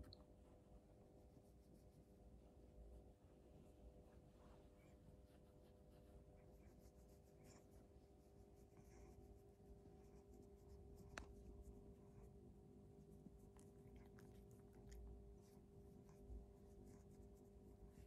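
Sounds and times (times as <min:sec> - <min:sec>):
low steady hum: 0:00.0 - 0:18.0
fingers rubbing cat fur: 0:01.0 - 0:02.6, 0:03.3 - 0:18.0.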